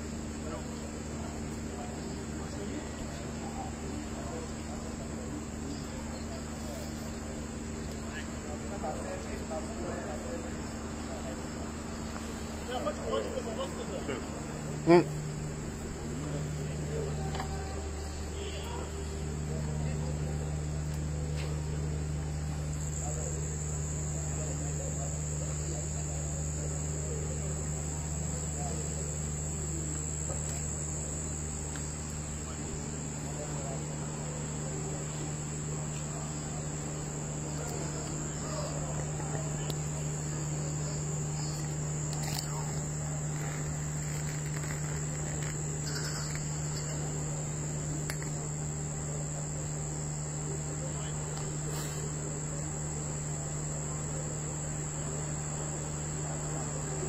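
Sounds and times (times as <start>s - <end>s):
crickets trilling: 0.0s - 57.0s
faint voices: 0.0s - 57.0s
low steady hum: 0.0s - 57.0s.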